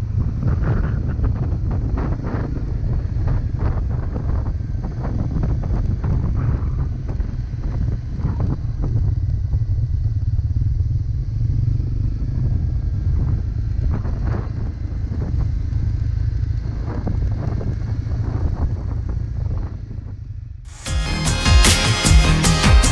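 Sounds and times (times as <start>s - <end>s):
dirt bike engine rumbling: 0.0s - 22.9s.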